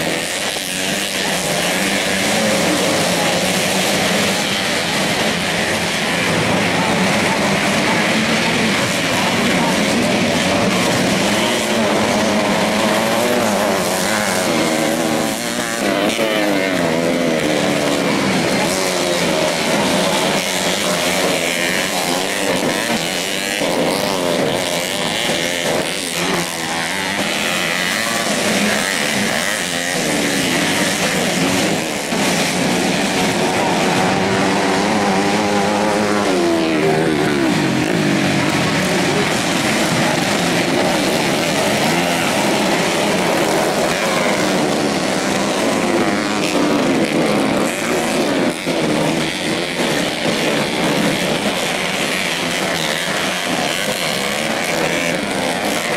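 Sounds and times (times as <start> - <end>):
motorcycle engines revving: 0.0 - 55.9.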